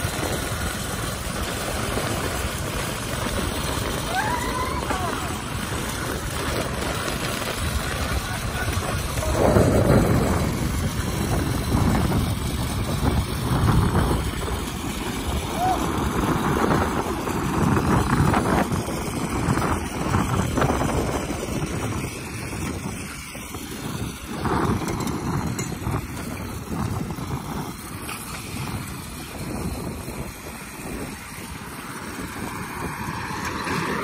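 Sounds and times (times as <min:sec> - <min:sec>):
small vehicle running: 0:00.0 - 0:34.0
wind buffeting microphone: 0:00.0 - 0:34.0.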